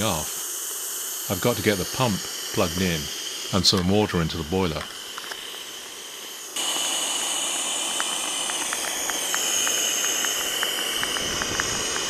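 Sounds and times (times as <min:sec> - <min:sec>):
faint irregular ticks: 0:00.0 - 0:06.9, 0:07.9 - 0:12.0
steam hissing: 0:00.0 - 0:12.0.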